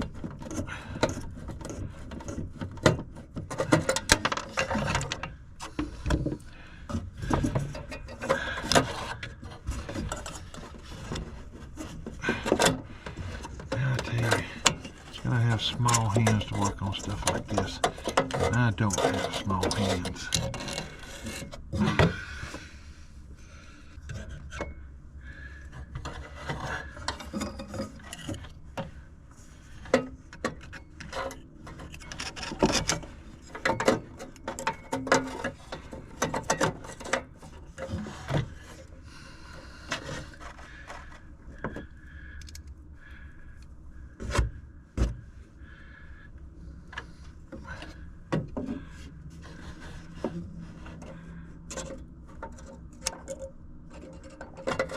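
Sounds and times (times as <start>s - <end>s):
scraping and rubbing: 0.0s - 22.7s, 25.3s - 43.3s, 46.6s - 54.9s.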